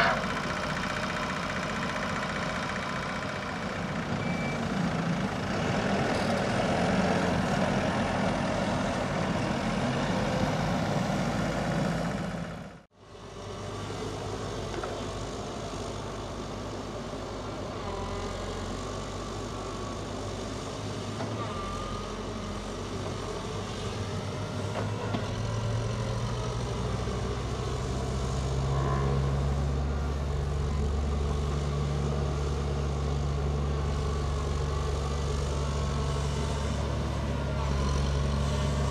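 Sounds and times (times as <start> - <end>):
dump truck diesel engine: 0.0 - 38.9
excavator diesel engine humming: 0.0 - 38.9.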